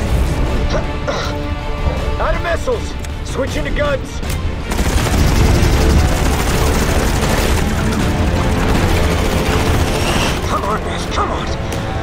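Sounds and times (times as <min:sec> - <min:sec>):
action film score: 0:00.0 - 0:12.0.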